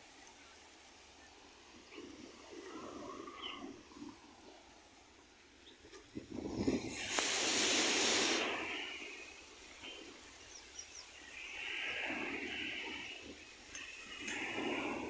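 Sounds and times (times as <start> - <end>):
surf: 0.0 - 15.0
wind: 0.0 - 15.0.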